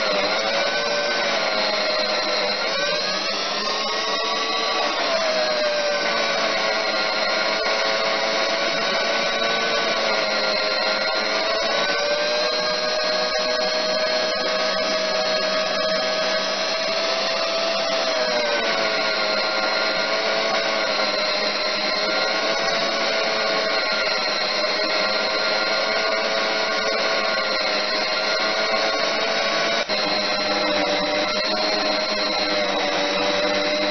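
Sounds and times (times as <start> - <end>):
tool post grinder motor whine: 0.0 - 33.9.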